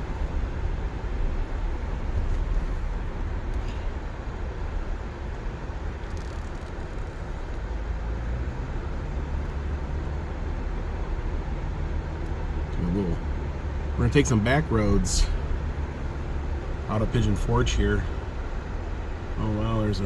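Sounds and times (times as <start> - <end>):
car cabin road and engine rumble: 0.0 - 20.0.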